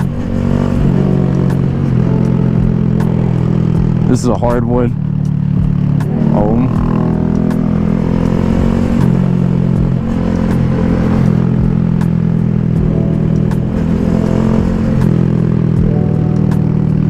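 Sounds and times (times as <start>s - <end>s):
motorcycle engine running under load: 0.0s - 17.0s.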